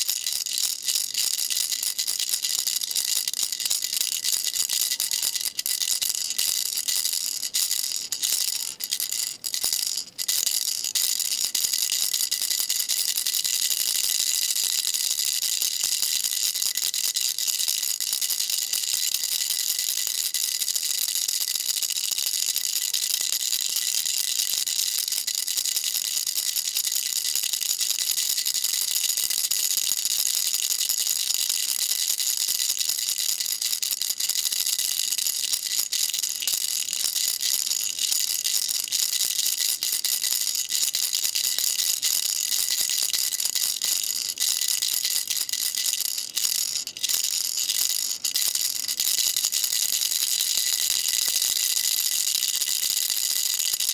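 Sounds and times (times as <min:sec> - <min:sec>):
baby rattle shaking: 0:00.0 - 0:53.9.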